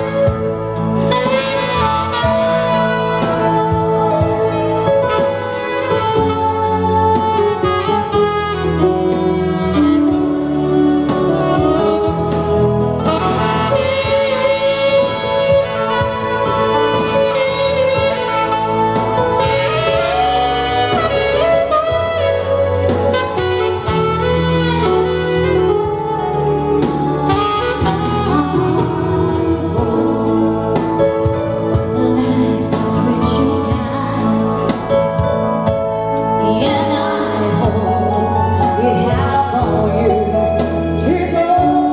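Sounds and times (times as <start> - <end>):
synthesizer bass and chords: 0.0 - 41.9
synthesizer saxophone lead melody: 0.0 - 41.9.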